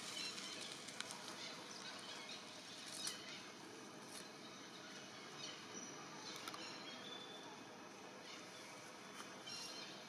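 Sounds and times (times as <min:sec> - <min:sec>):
faint forest ambience: 0:00.0 - 0:10.0.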